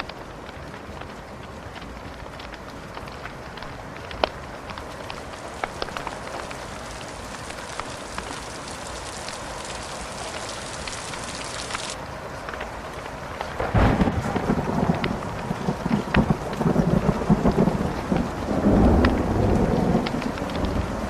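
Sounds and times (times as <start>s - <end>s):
thunder rumbling: 0.0s - 12.0s, 13.2s - 21.0s
rain hiss: 0.0s - 21.0s
wood fire crackling: 0.0s - 21.0s.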